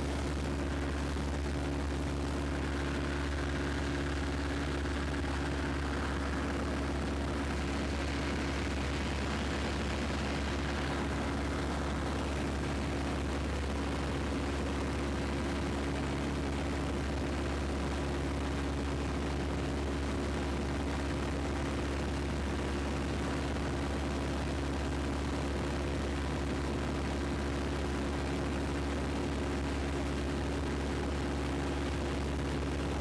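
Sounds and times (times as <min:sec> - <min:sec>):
small plane engine droning: 0:00.0 - 0:33.0.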